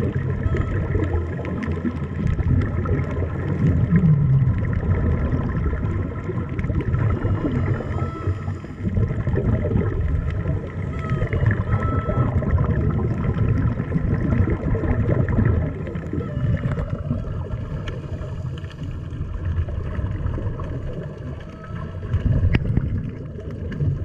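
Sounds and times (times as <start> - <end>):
gurgling water: 0.0 - 24.0
muffled underwater rumble: 0.0 - 24.0.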